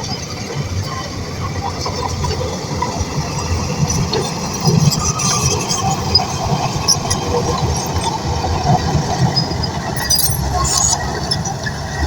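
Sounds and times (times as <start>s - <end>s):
steel tracks clanking and squeaking: 0.1s - 12.0s.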